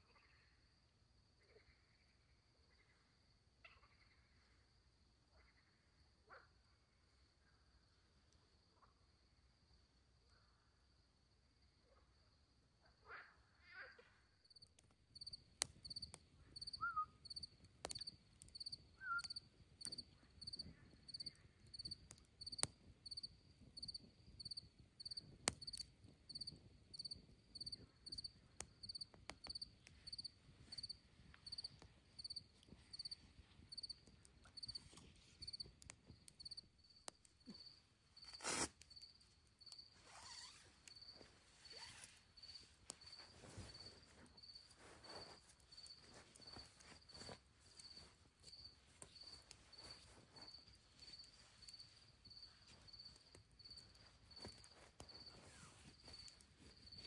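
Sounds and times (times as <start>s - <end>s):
cricket chirping: 0.0s - 13.3s, 14.2s - 57.0s.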